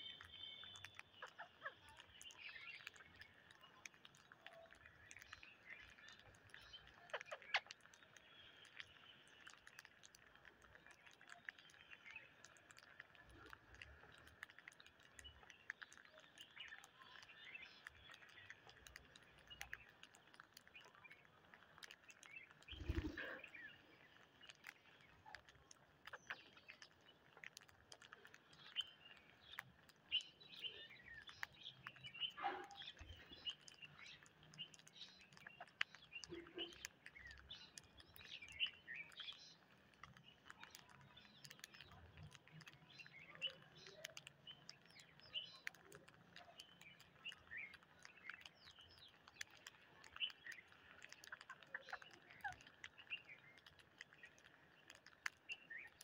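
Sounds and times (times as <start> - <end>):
beaks pecking and cracking grain: 0.0 - 56.0
soft bird chirps: 0.0 - 56.0.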